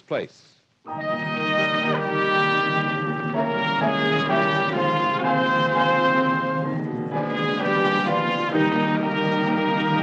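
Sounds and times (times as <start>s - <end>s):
brass-led orchestral music: 0.9s - 10.0s.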